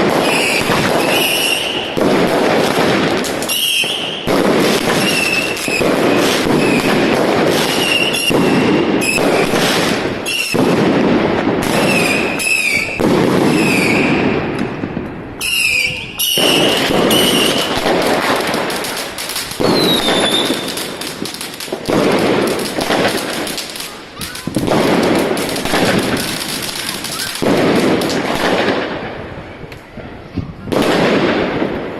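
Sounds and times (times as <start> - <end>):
firework whistles: 0.0 - 10.7, 11.6 - 14.8, 15.4 - 28.5
fireworks bangs and crackling: 0.0 - 31.9.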